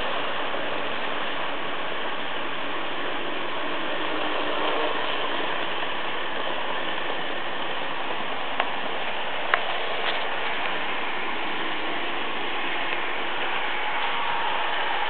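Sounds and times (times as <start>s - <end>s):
model trains whirring on track: 0.0s - 15.0s.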